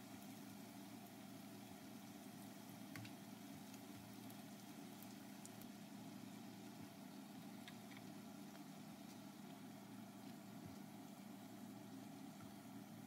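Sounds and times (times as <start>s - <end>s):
oil sizzling: 0.0s - 11.7s.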